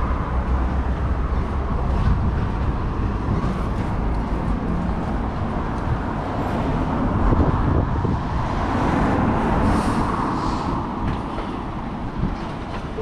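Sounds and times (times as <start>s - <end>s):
low rumble of motor vehicles: 0.0s - 13.0s.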